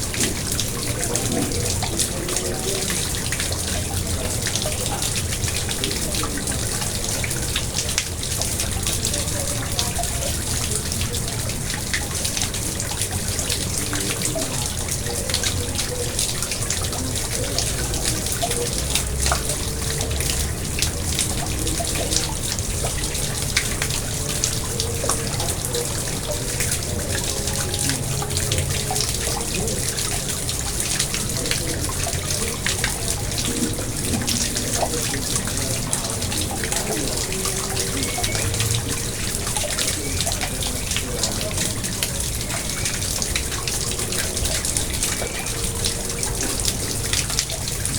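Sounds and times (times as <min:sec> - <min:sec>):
pond water trickling and splashing: 0:00.0 - 0:47.9.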